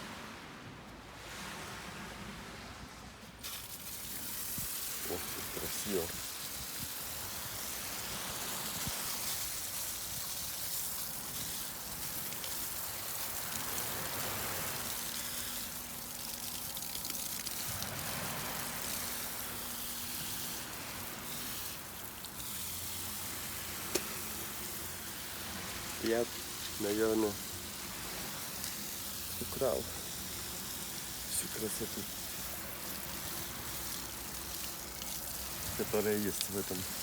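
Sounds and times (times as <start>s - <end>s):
sea surf washing onto shore: 1.1s - 37.0s.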